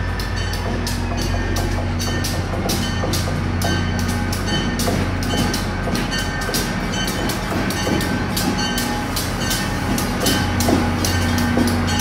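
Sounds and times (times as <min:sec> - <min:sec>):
diesel locomotive engine drone: 0:00.0 - 0:12.0
locomotive bell ringing: 0:00.0 - 0:12.0.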